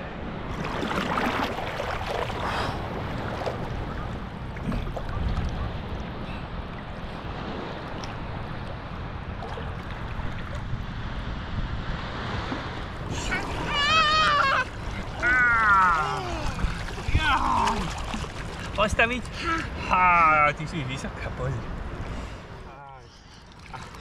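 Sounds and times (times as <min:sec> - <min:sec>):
wind rumbling on microphone: 0:00.0 - 0:19.5
small waves washing on shore: 0:00.4 - 0:24.0.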